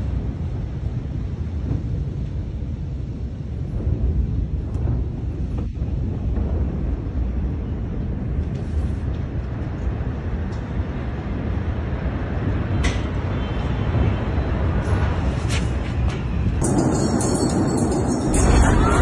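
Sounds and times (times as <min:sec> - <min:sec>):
low rumbling noise: 0:00.0 - 0:19.0.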